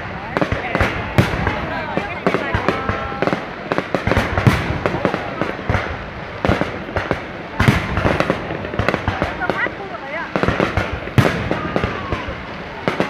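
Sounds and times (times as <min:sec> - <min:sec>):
firework shells bursting: 0:00.0 - 0:13.0.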